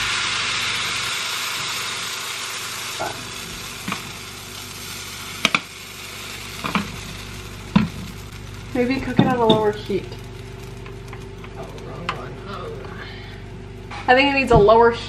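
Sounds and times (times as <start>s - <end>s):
pancake batter sizzling: 0.0s - 14.3s.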